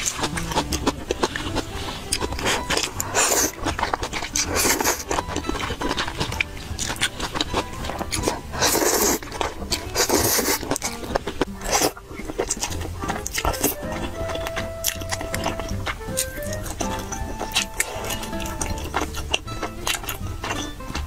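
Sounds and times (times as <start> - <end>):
slurping noodles: 0.0 - 20.7
wet chewing and lip smacks: 0.0 - 21.0.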